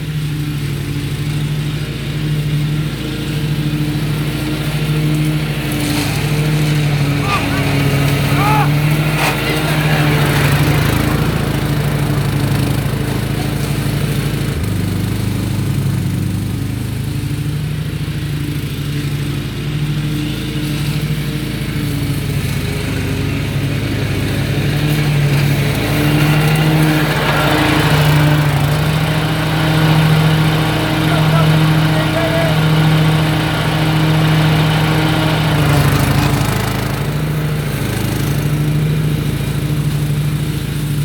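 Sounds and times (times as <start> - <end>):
riding lawnmower engine: 0.0 - 41.0.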